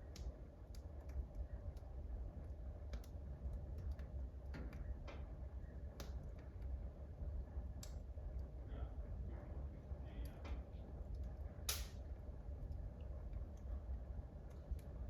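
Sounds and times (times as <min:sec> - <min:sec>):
low steady fire rumble: 0:00.0 - 0:15.0
wood fire crackling: 0:00.0 - 0:15.0.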